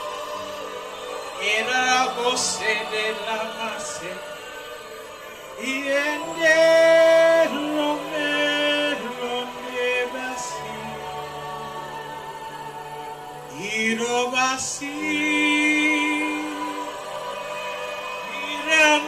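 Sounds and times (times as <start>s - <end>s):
person singing worship song: 0.0s - 19.0s
sustained background music: 0.0s - 19.0s.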